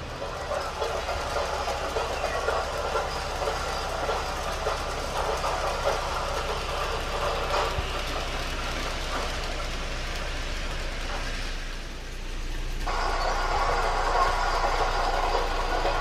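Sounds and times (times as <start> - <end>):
model train whirring: 0.0 - 16.0
wheels clicking on rails: 0.0 - 16.0.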